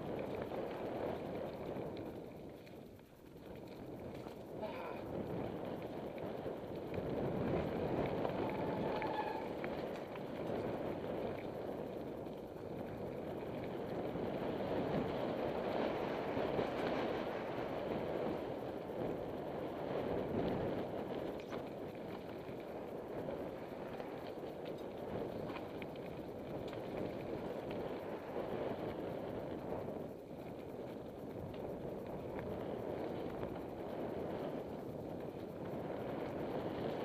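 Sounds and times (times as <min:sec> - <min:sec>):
bike rattling: 0:00.0 - 0:37.0
bike tyres crunching over dirt: 0:00.0 - 0:37.0.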